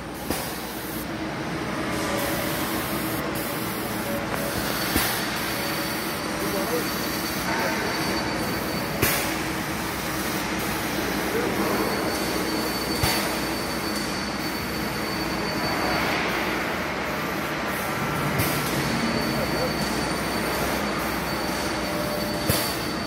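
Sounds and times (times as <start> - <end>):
industrial machine noise: 0.0 - 23.0.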